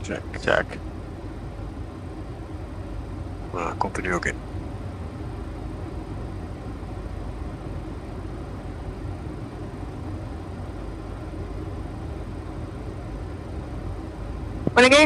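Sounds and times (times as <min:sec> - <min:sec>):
airflow and engine rush: 0:00.0 - 0:15.0.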